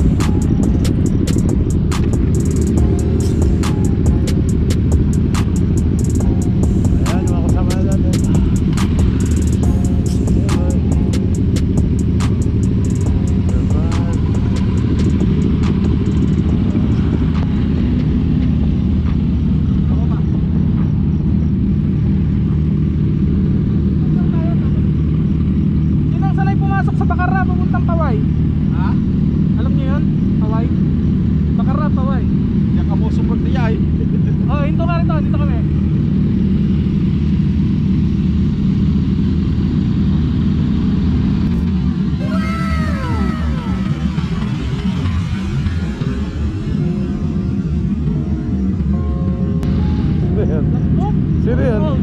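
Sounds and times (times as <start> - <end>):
motorcycle engines idling: 0.0 - 52.0.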